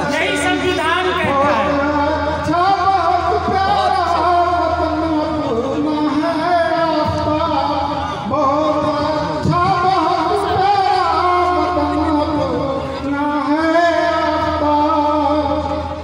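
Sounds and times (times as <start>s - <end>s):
man singing through loudspeakers: 0.0s - 16.0s.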